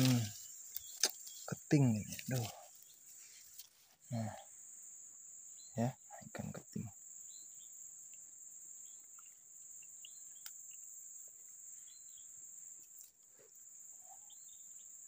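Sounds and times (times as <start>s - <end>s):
faint chirps: 0.0s - 15.0s
insects buzzing: 0.0s - 15.0s.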